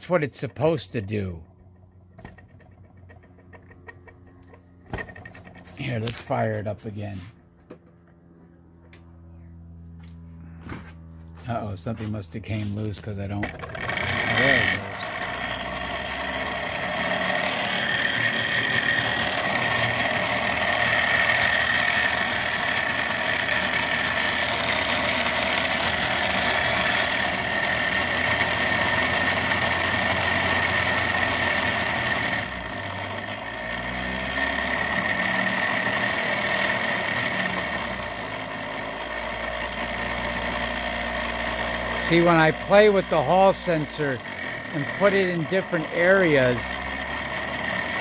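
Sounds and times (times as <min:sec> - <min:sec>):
motor rotor whining: 0:00.0 - 0:48.0.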